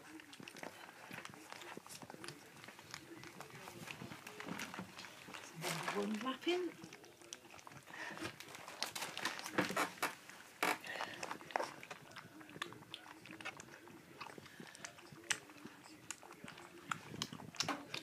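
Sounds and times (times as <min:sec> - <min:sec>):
puppies lapping milk: 0:00.0 - 0:18.0.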